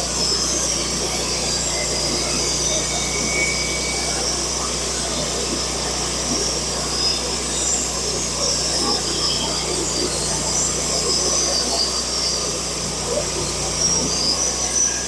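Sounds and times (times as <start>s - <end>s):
band saw cutting log: 0.0s - 15.0s.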